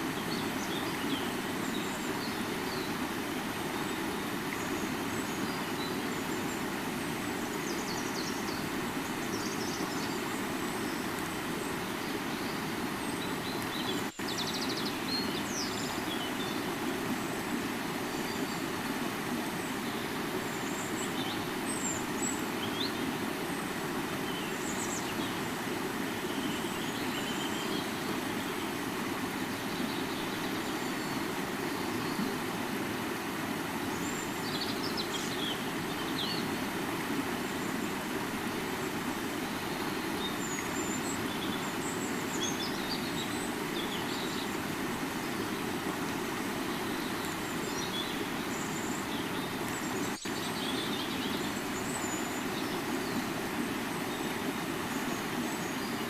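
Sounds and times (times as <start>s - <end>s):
river water rushing: 0.0s - 56.0s
small birds chirping: 0.1s - 56.0s.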